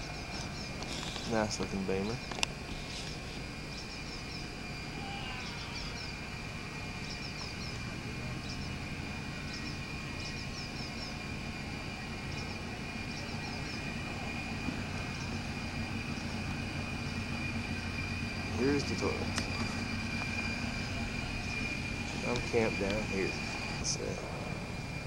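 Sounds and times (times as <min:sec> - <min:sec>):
faint high whine: 0:00.0 - 0:25.0
low outdoor rumble: 0:00.0 - 0:25.0.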